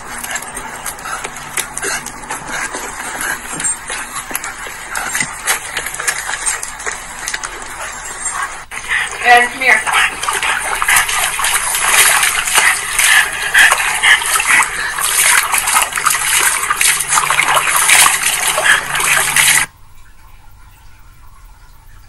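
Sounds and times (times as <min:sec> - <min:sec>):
dog splashing water in a tub: 0:00.0 - 0:19.7.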